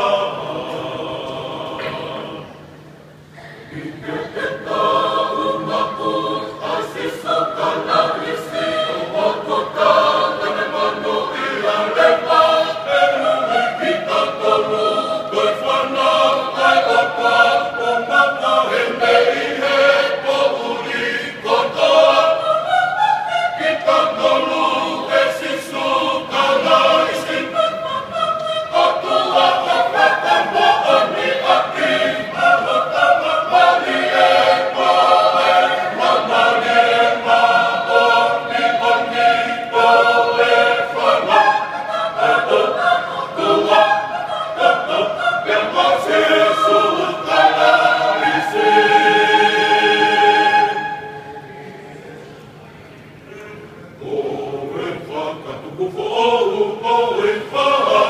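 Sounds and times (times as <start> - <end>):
church choir singing: 0.0 - 52.2, 53.3 - 58.0.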